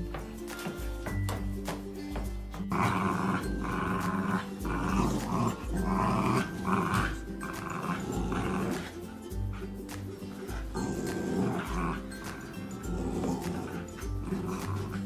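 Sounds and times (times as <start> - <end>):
background music with beat: 0.0 - 15.0
puppies growling: 2.7 - 15.0.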